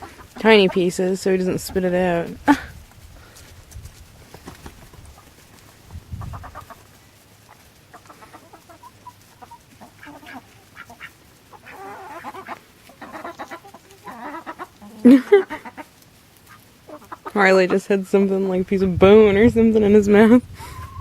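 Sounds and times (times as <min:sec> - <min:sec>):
chickens clucking: 0:00.0 - 0:18.9, 0:20.0 - 0:21.0.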